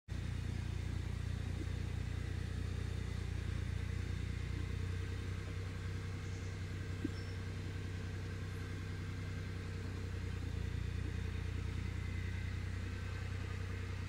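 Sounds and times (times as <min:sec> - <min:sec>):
motor humming: 0:00.1 - 0:14.0.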